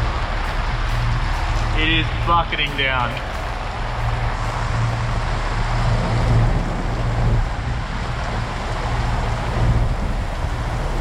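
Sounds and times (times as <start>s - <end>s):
heavy rain: 0.0s - 11.0s
sea: 0.0s - 11.0s
wind buffeting microphone: 0.0s - 11.0s.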